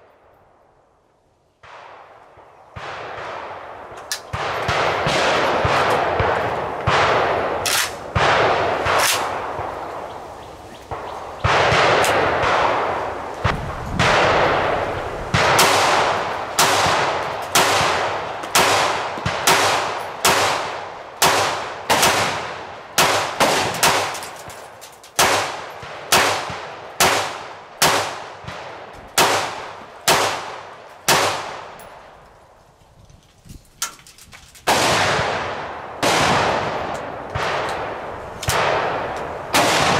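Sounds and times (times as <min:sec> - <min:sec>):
gunshots with echoing tail: 0:01.6 - 0:10.2, 0:10.9 - 0:24.4, 0:25.2 - 0:32.0, 0:34.7 - 0:39.9.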